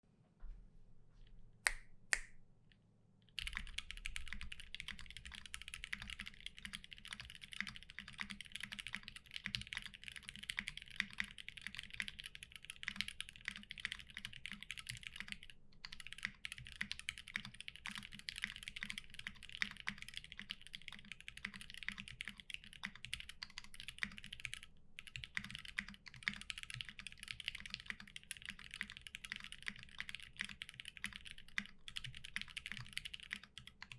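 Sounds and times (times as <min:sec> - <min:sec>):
mechanical keyboard typing: 0:03.4 - 0:33.9.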